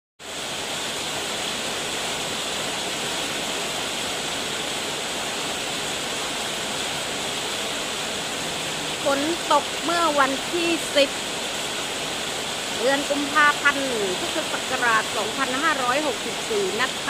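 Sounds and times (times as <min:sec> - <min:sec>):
rain falling on foliage: 0:00.2 - 0:17.0.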